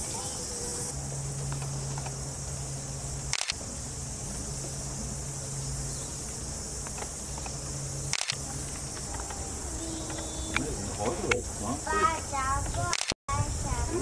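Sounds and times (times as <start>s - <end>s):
low hum: 0.0s - 14.0s
steady high hiss: 0.0s - 14.0s.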